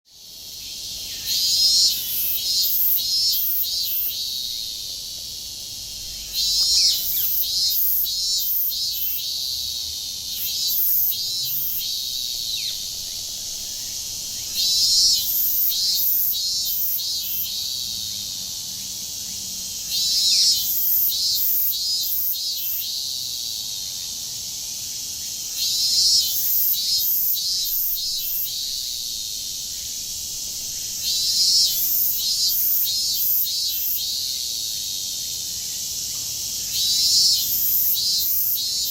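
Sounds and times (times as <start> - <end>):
cicadas droning: 0.1 - 38.9
very high pulsed insect notes: 0.2 - 38.9.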